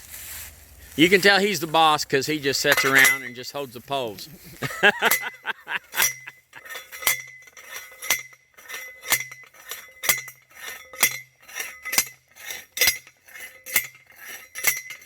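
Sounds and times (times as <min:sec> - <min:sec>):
metal post clanking: 0:02.5 - 0:15.0.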